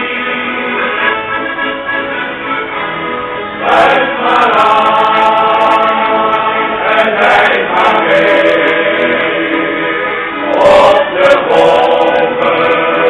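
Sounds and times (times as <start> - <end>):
male choir singing: 0.0 - 1.2, 3.6 - 13.0
accordion: 0.0 - 13.0.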